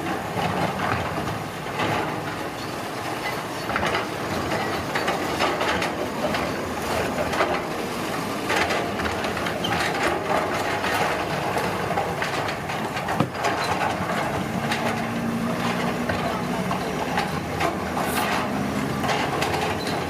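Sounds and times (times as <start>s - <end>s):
construction machinery noise: 0.0s - 20.0s
machinery clanks and knocks: 0.0s - 20.0s.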